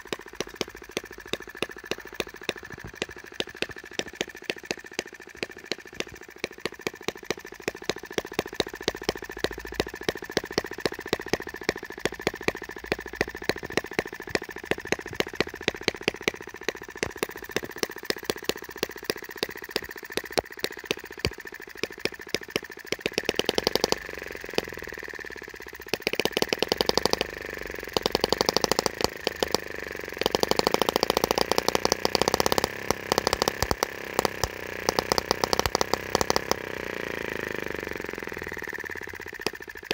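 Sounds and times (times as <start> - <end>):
model engine firing: 0.0 - 39.9.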